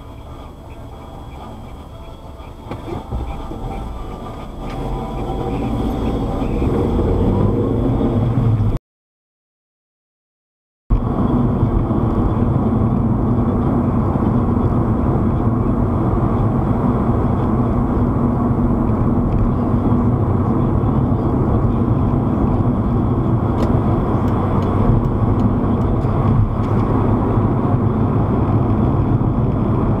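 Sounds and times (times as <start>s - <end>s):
car road and engine rumble: 0.0s - 8.8s, 10.9s - 30.0s.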